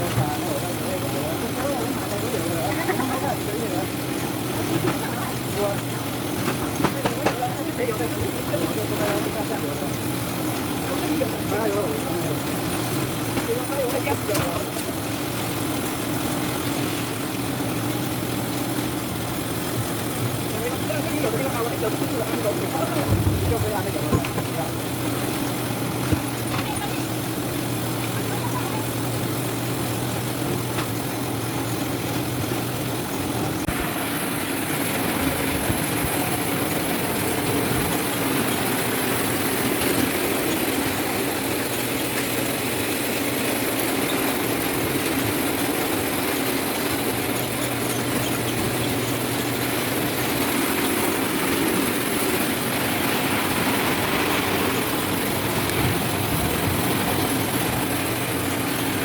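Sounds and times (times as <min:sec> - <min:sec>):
sorting machine running: 0:00.0 - 0:59.0.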